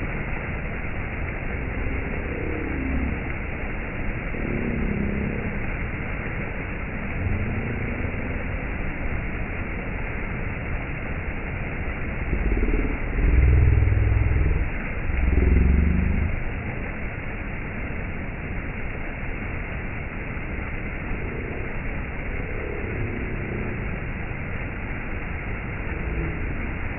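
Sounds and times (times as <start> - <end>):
low rumble: 0.0 - 26.9.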